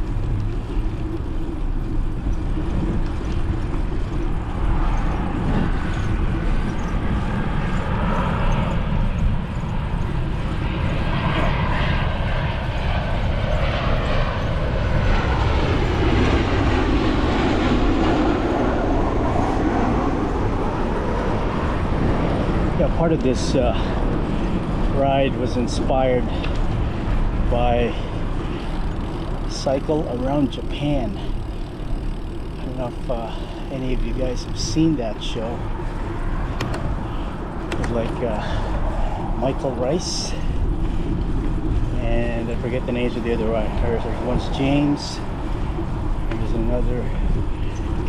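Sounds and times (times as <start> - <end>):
jet airliner engine whine: 0.0 - 48.0.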